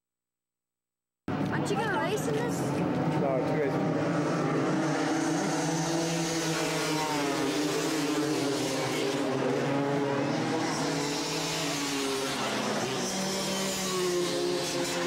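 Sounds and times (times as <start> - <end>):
dirt bike engines racing: 1.3 - 15.0.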